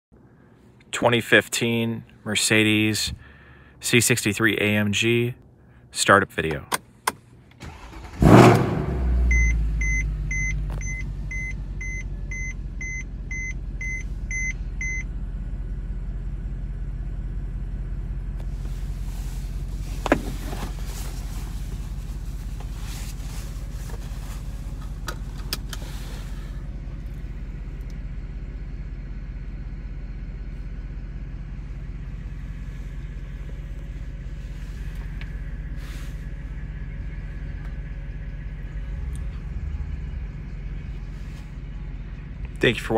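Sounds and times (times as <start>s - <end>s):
car engine starting and idling: 5.4s - 42.9s.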